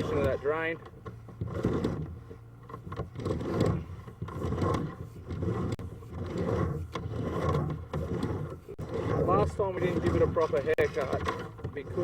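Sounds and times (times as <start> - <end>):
camera scraping inside pipe: 0.0 - 12.0.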